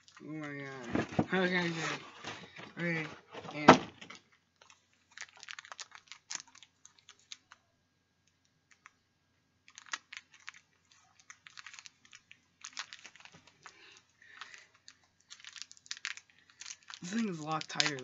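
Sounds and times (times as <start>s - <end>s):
plastic packaging clicks and crinkles: 0.0s - 3.1s, 4.0s - 7.6s, 8.2s - 9.0s, 9.6s - 18.0s.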